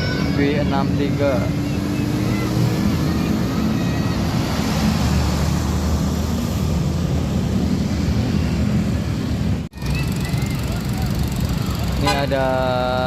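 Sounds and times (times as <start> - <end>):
diesel bus engine passing: 0.0 - 13.0
heavy road traffic: 0.0 - 13.0.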